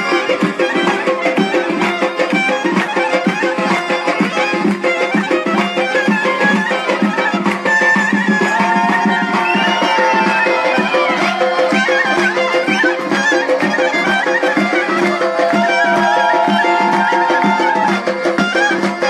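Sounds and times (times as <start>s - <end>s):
accordion chords: 0.0s - 19.0s.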